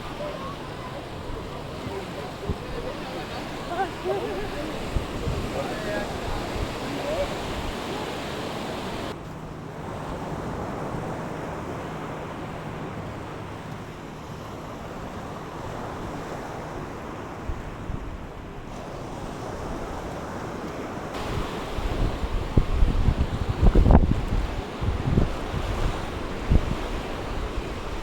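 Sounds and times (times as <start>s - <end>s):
wind buffeting microphone: 0.0s - 9.2s, 10.1s - 28.0s
sea surf on a beach: 0.0s - 28.0s.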